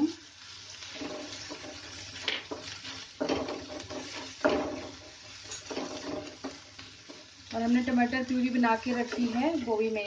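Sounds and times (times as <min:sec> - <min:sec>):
masala sizzling: 0:00.0 - 0:10.0
wooden spatula scraping a pan: 0:00.5 - 0:10.0.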